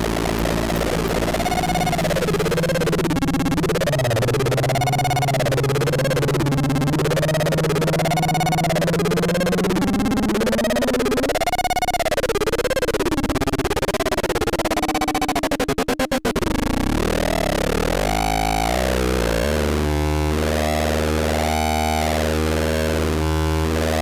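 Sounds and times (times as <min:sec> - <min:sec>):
low synthesiser drone: 0:00.0 - 0:24.0
rapid electronic stutter: 0:00.0 - 0:24.0
swooping synthesiser tone: 0:00.0 - 0:24.0.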